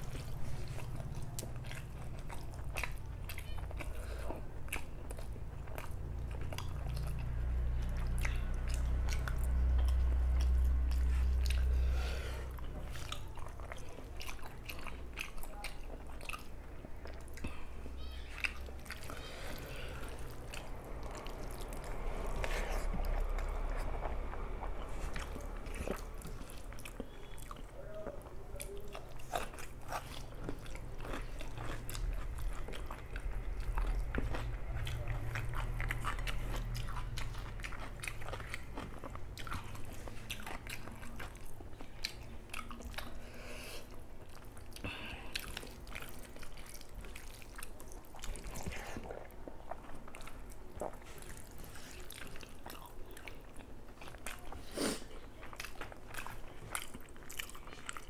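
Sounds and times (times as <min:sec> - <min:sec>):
chewing and mouth-smacking: 0:00.0 - 0:58.0.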